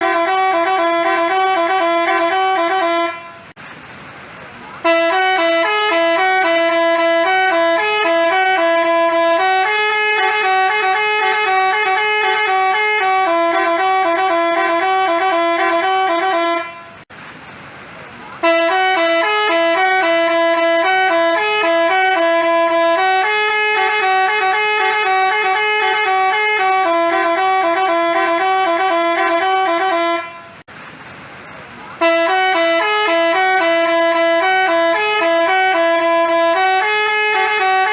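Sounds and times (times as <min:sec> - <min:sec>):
musical bus horn playing a tune: 0:00.0 - 0:03.6, 0:04.8 - 0:17.1, 0:18.4 - 0:30.7, 0:32.0 - 0:37.9.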